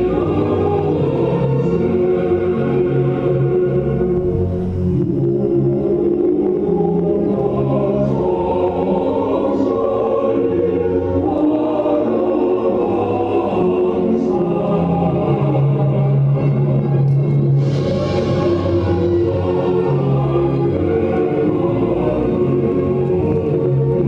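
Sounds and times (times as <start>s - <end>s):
choir singing slow chords: 0.0s - 24.0s.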